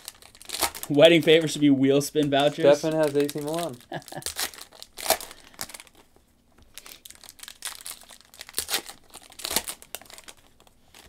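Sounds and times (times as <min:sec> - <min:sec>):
foil wrapper crinkling and tearing: 0:00.0 - 0:01.6, 0:02.2 - 0:11.0.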